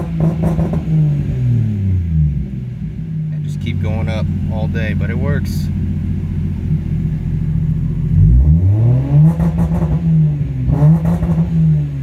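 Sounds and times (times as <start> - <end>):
car engine revving to limiter: 0.0 - 12.0.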